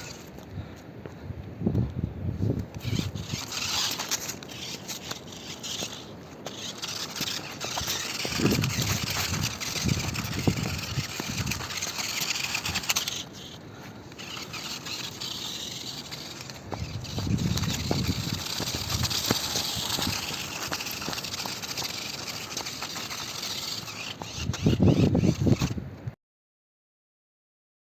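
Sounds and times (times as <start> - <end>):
toy truck chassis rattling: 0.0 - 0.3, 2.7 - 25.8
tyres crunching over dirt and stones: 2.8 - 25.6.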